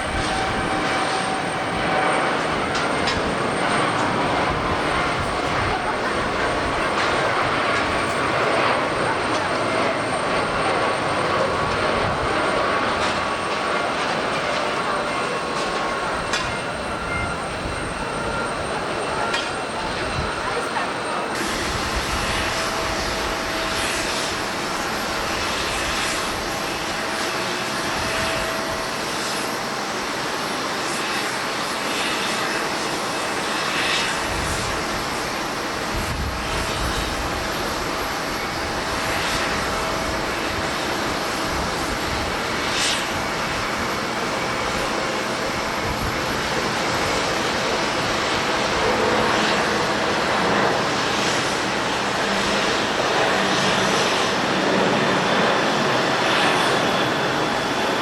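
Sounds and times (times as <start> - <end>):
wind buffeting microphone: 0.0 - 29.6, 32.0 - 58.0
jet engines running: 0.0 - 58.0.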